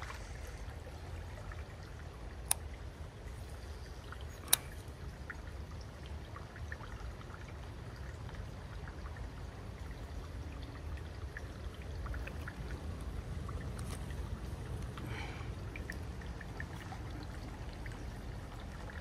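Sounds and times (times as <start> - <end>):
creek water trickling: 0.0 - 19.0.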